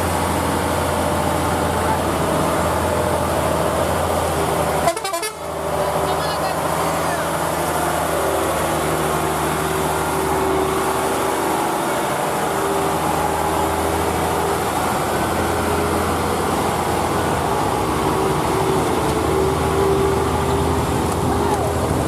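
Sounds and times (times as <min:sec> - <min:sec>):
road and traffic noise: 0:00.0 - 0:22.0
truck engine humming: 0:00.0 - 0:22.0.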